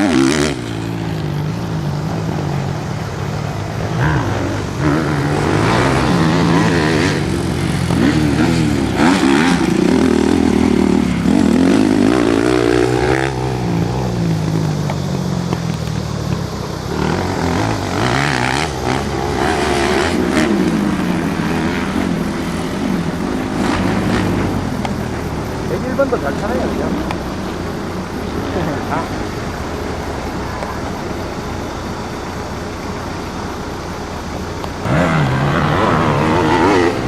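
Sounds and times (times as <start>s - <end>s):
motocross motorcycle engines revving: 0.0s - 37.0s.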